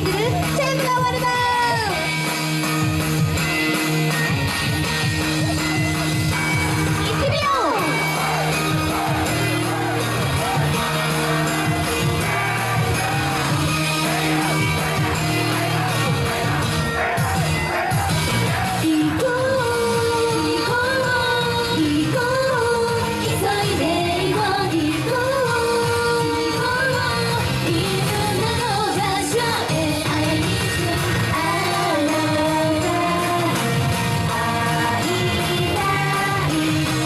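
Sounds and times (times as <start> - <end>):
amplified backing music: 0.0 - 37.0
women singing pop song: 7.0 - 37.0.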